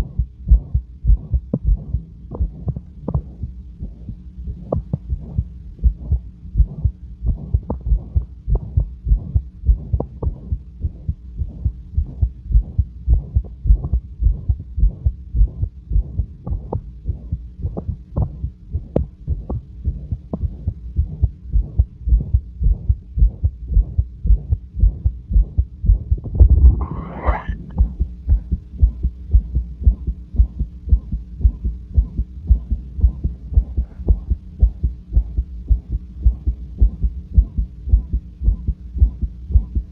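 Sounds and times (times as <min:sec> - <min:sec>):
heartbeat with whooshing murmur: 0:00.0 - 0:39.9.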